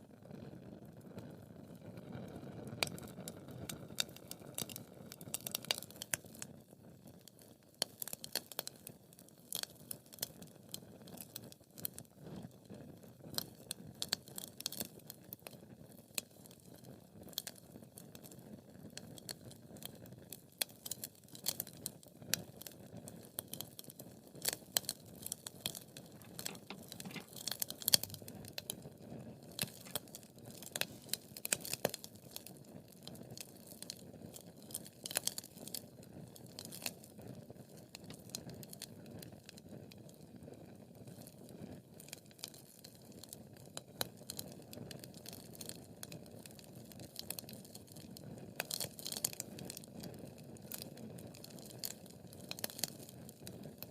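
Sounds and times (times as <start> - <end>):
soft rustle of burning logs: 0.0 - 53.9
fire popping and snapping: 2.2 - 6.5, 7.3 - 12.5, 13.2 - 15.3, 15.9 - 40.2, 41.0 - 53.9.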